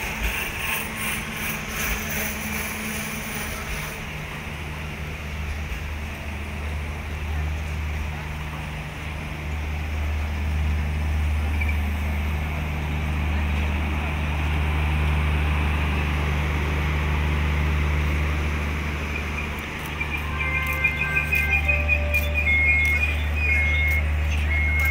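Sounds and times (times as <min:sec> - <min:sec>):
passenger train passing: 0:00.0 - 0:24.9.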